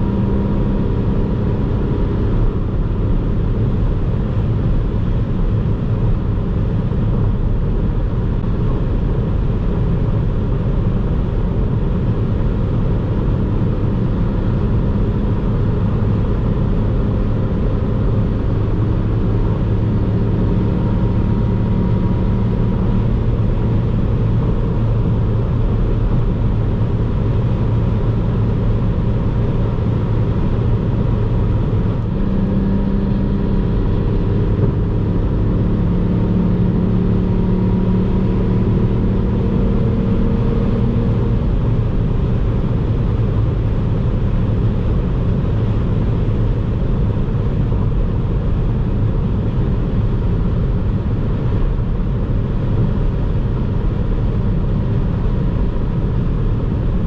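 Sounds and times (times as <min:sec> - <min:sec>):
car engine and tyres cruising: 0:00.0 - 0:57.0.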